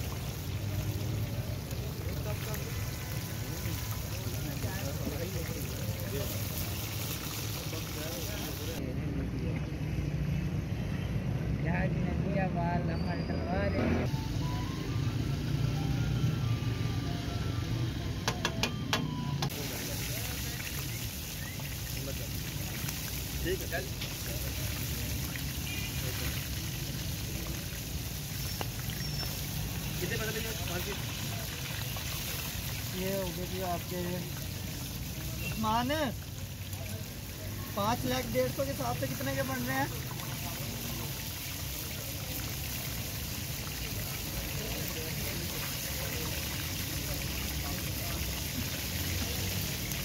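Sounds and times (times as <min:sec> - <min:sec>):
oil sizzling and bubbling: 0:00.0 - 0:11.3, 0:14.0 - 0:50.0.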